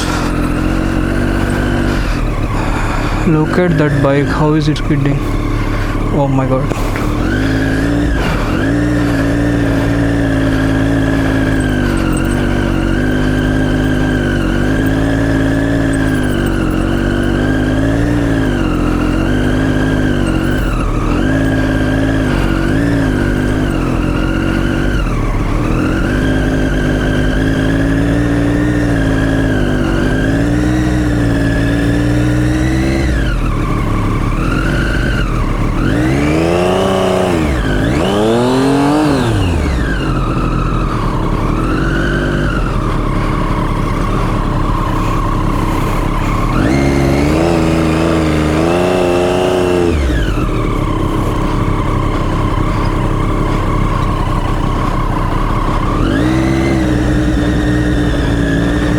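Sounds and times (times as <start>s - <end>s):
motorcycle engine revving: 0.0s - 58.9s
rear wheel skidding in dirt: 0.0s - 58.9s.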